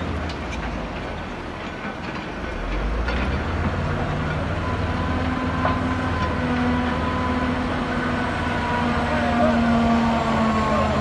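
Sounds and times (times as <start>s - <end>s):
diesel machinery engine rumble: 0.0s - 11.0s.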